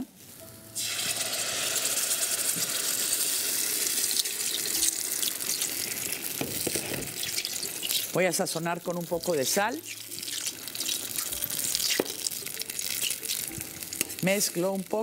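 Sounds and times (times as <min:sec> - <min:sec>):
salsa sizzling in hot oil: 0:00.4 - 0:15.0.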